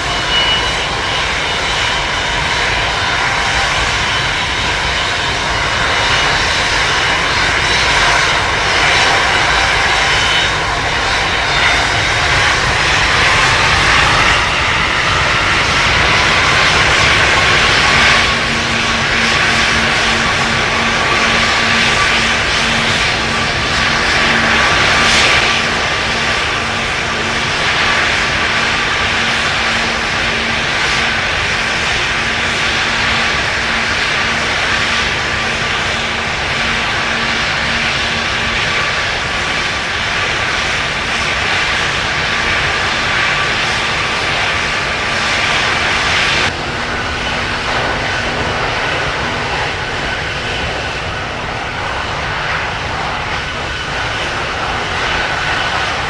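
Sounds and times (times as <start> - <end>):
airliner engine rushing and whining: 0.0 - 56.0.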